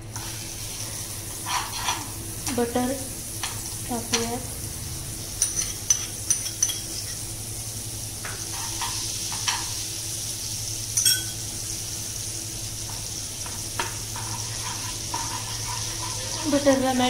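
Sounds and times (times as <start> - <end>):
butter sizzling in a pan: 0.0 - 17.0.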